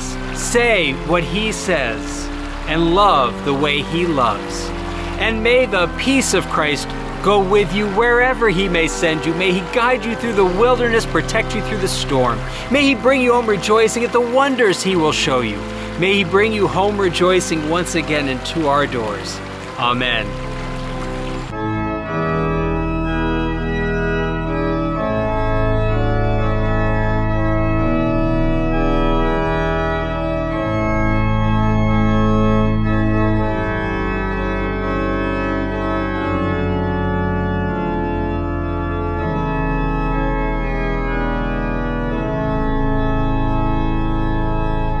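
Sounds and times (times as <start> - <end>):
organ playing held chords: 0.0 - 45.0.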